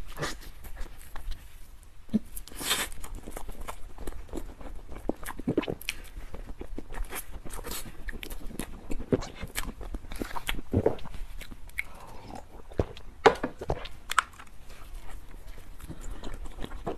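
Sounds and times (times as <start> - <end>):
biting and chewing bread: 0.0 - 16.9.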